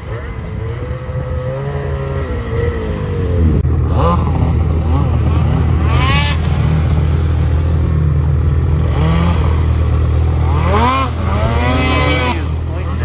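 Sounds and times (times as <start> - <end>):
snowmobile engine idling: 0.0 - 13.0
snowmobile engine revving: 0.0 - 13.0.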